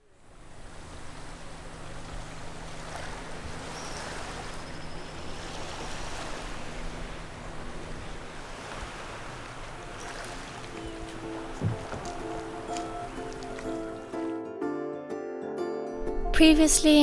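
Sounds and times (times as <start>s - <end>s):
low hum: 0.0s - 14.0s
waves lapping on pebbles: 0.3s - 14.3s.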